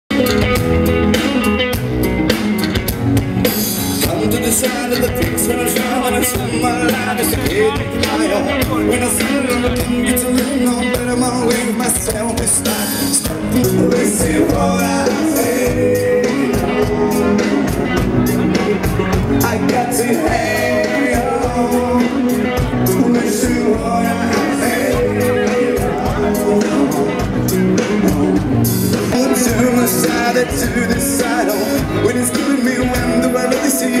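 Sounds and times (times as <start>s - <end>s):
rock and roll song with singing: 0.1s - 34.0s.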